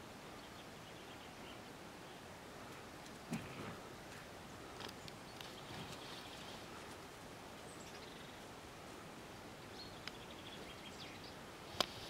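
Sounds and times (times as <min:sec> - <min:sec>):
faint outdoor hiss: 0:00.0 - 0:12.0
distant bird chirps: 0:00.3 - 0:07.0, 0:07.6 - 0:08.5, 0:09.5 - 0:12.0.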